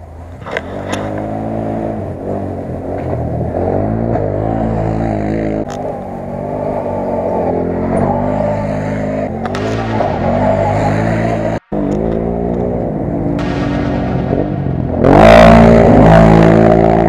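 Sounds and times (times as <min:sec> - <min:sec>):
quad bike engine revving: 0:00.4 - 0:17.0.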